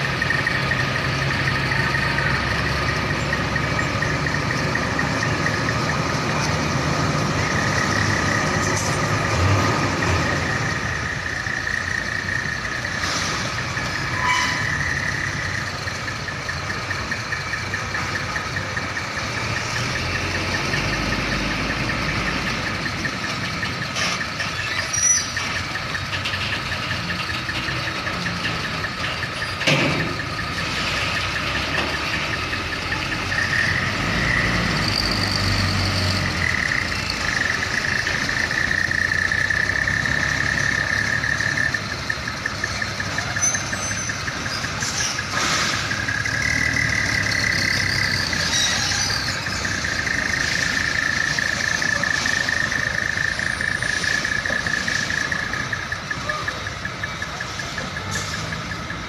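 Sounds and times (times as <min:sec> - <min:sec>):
diesel truck engines idling: 0:00.0 - 0:59.0
truck driving past: 0:00.0 - 0:59.0.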